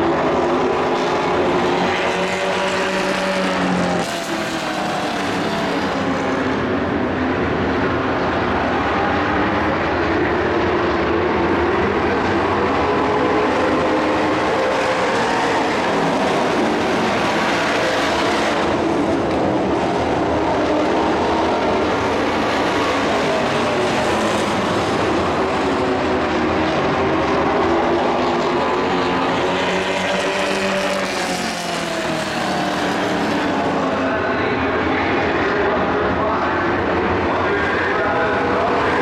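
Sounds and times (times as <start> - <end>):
race truck engines passing: 0.0 - 39.0.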